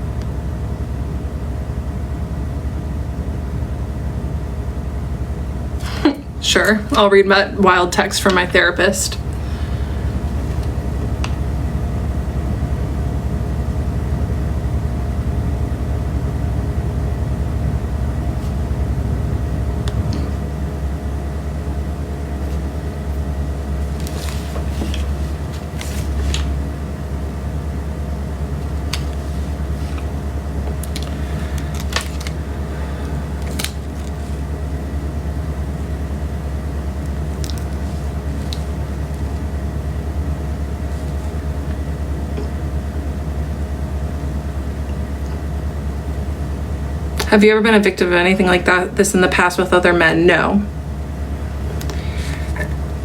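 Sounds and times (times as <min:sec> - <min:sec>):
low rumble and hum: 0:00.0 - 0:53.0.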